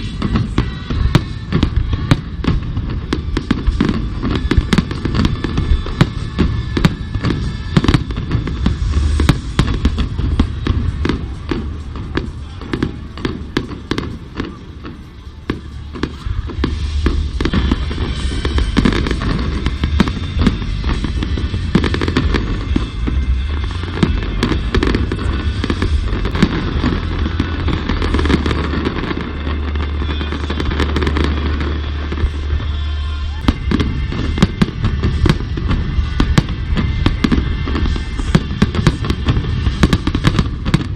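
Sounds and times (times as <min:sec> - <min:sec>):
fireworks bangs and crackles: 0:00.0 - 0:40.9
music playing: 0:00.0 - 0:40.9.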